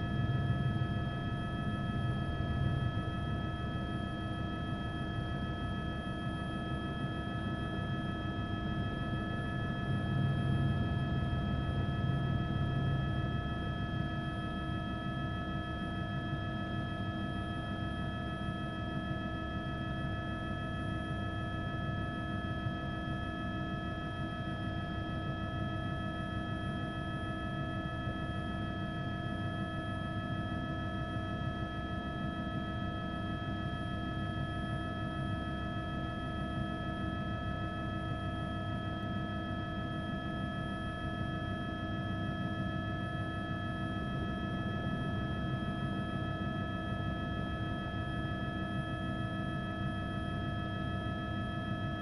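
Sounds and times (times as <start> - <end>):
helicopter engine and rotor: 0.0 - 52.0.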